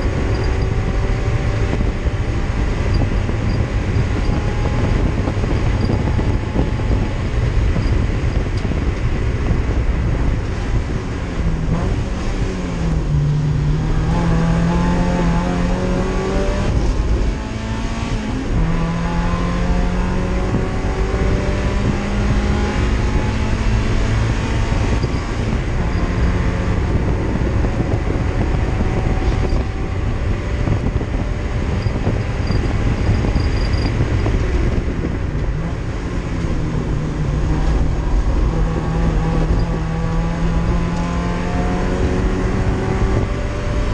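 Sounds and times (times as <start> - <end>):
race car engine accelerating: 0.0 - 43.9
wind noise: 0.0 - 43.9.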